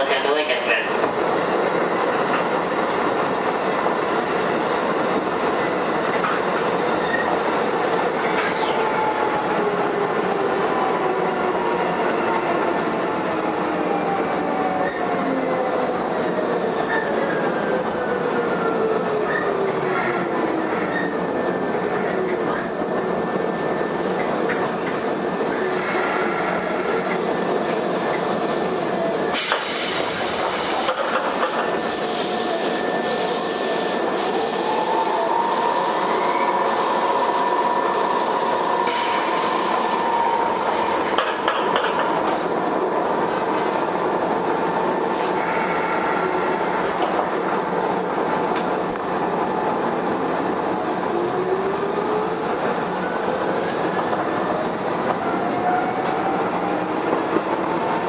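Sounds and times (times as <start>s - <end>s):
loud train clatter: 0.0s - 58.0s
wheels rumbling on rails: 1.0s - 58.0s.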